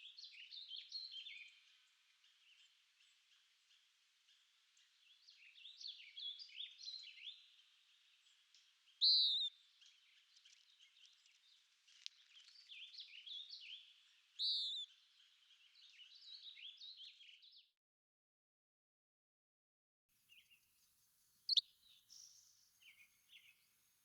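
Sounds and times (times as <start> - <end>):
songbirds chirping: 0.0 - 17.7, 20.2 - 24.0.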